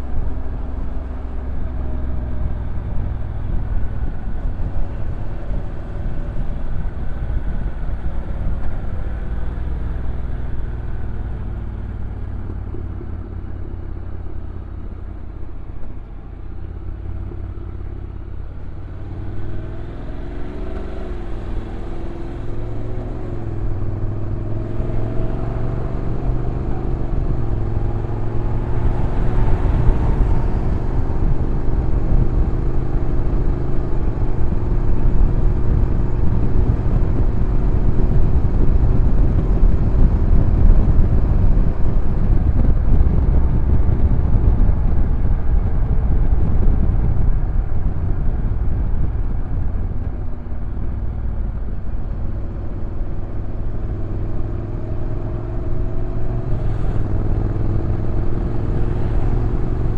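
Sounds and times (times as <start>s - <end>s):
low wind rumble on microphone: 0.0s - 59.9s.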